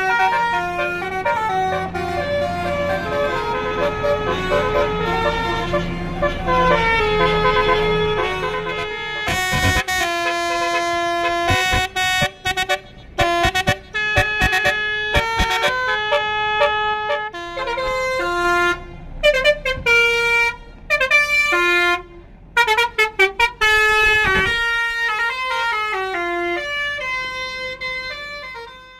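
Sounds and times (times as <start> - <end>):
musical bus air horn tune: 0.0 - 28.9.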